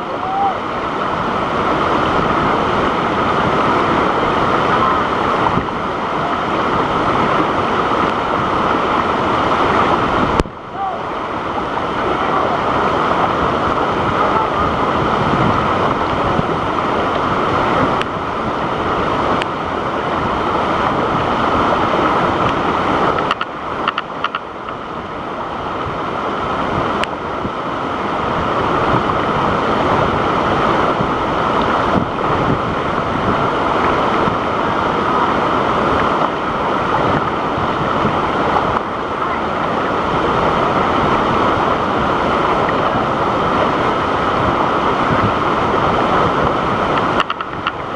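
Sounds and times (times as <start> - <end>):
waterfall rushing water: 0.0 - 47.9.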